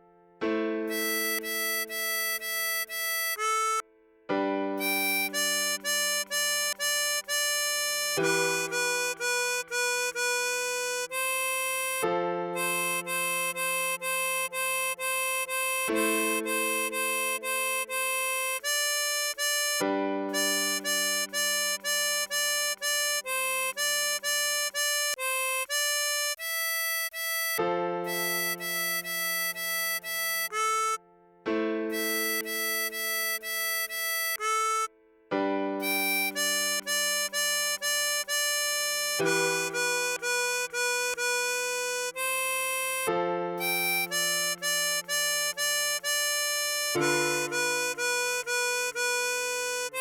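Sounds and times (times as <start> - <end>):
harmonica melody: 0.7 - 50.0.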